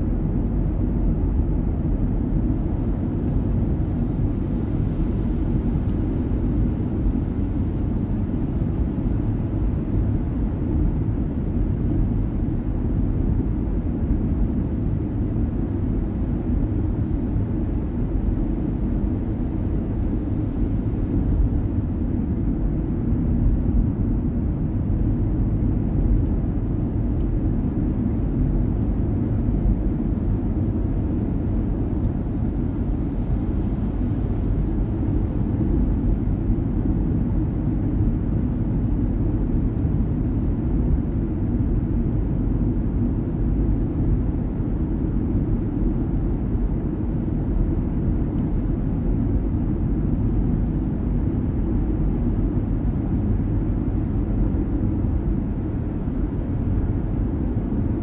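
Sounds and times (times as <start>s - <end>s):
vehicle road and engine rumble: 0.0s - 58.0s.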